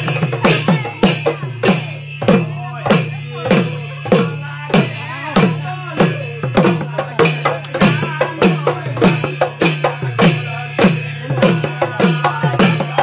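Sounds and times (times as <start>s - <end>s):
barrel drums beaten in rhythm: 0.0s - 13.0s.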